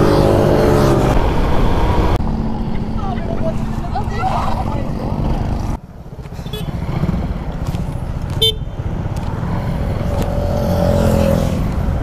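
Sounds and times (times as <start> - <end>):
motorcycle engine and road noise: 0.0 - 12.0.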